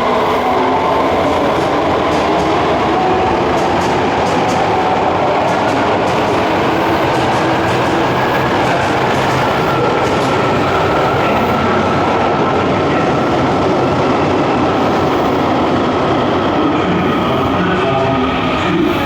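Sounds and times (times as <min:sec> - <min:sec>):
subway train rolling: 0:00.0 - 0:19.0.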